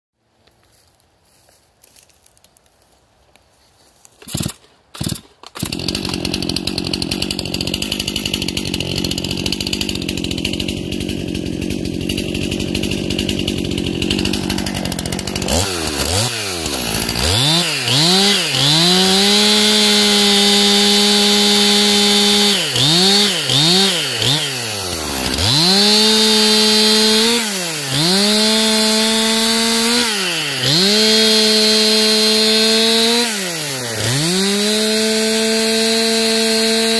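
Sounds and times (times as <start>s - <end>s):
chainsaw idling: 4.2s - 36.9s
chainsaw revving and cutting wood: 4.2s - 36.9s.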